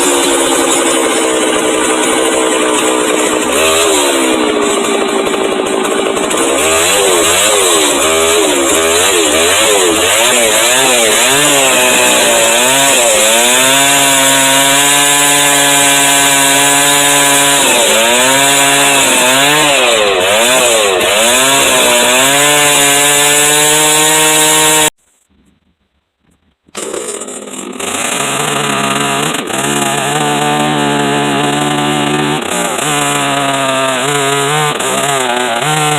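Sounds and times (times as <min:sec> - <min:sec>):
chainsaw ripping wood: 0:00.0 - 0:25.3, 0:26.7 - 0:35.9.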